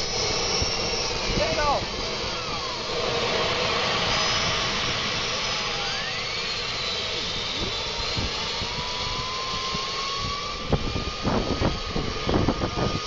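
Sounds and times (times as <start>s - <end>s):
small gas turbine roaring: 0.0s - 13.0s.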